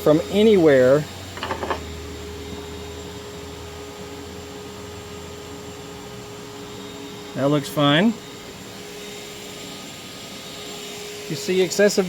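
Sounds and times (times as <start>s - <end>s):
shop vacuum motor hum: 0.0s - 12.0s.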